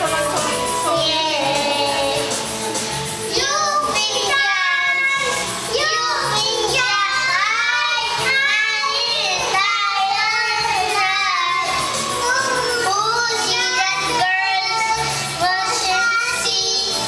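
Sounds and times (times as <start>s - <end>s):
boy singing: 0.0s - 2.4s, 3.3s - 17.0s.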